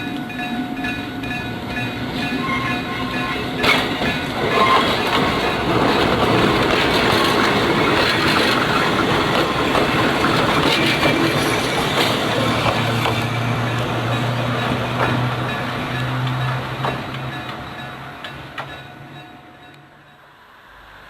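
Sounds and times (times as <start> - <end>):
wheels clicking over rail joints: 0.1 - 20.0.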